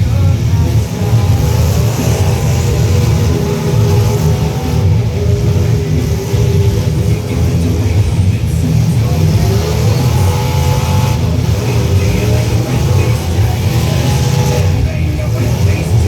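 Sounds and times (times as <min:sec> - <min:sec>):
truck engines revving: 0:00.0 - 0:16.0.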